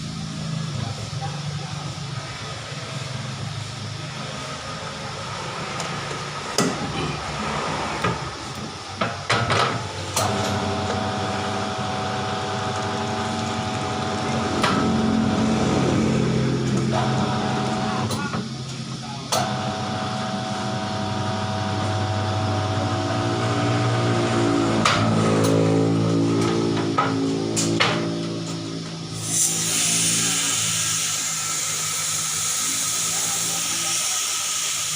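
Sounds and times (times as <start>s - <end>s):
tyre changer motor humming: 0.0s - 34.9s.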